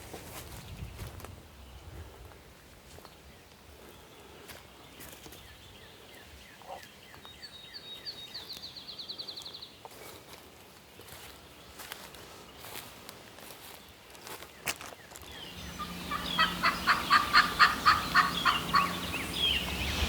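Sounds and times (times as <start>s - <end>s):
songbird singing: 3.0s - 10.1s, 10.9s - 20.0s.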